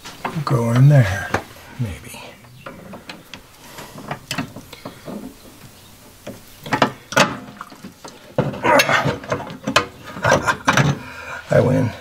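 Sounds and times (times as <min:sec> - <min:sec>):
wire scraping and rubbing: 0:00.0 - 0:11.7.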